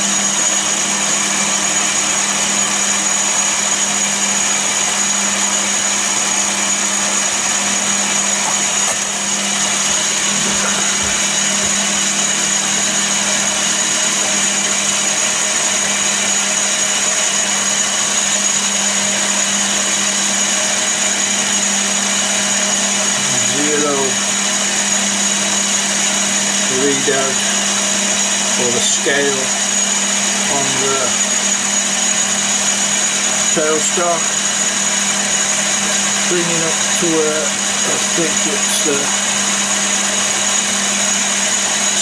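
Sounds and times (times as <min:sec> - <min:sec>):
high whine: 0:00.0 - 0:42.0
metal lathe running: 0:00.0 - 0:42.0.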